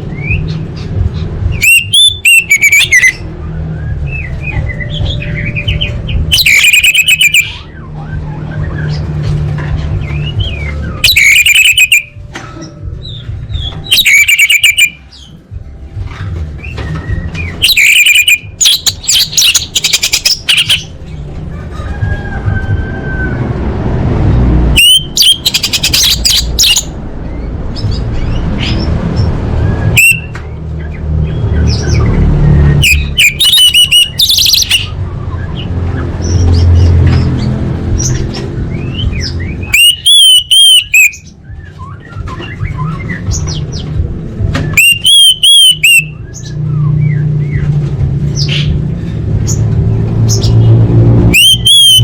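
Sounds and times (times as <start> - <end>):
thrush singing chirps and trills: 0.0 - 52.0.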